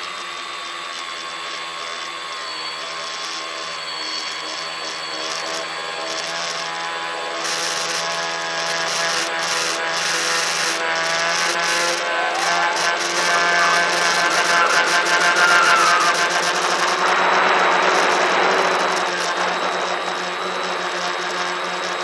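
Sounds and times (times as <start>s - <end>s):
drone motors whirring: 0.0s - 22.0s.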